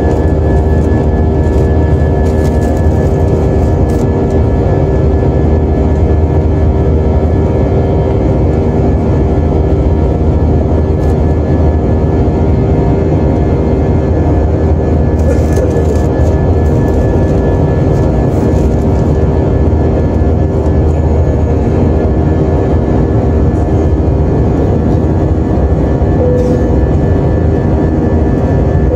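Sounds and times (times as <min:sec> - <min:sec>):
jet airliner cabin noise: 0:00.0 - 0:28.9.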